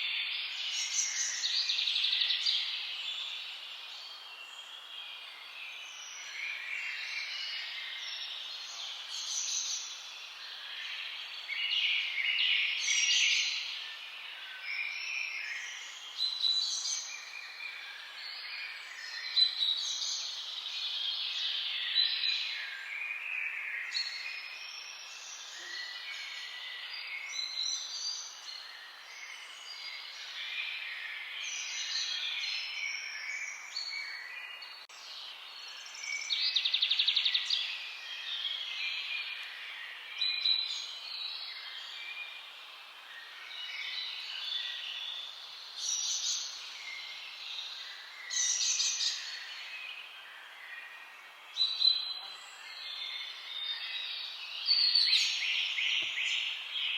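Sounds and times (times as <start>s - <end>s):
songbirds singing and chirping: 0.0s - 56.9s.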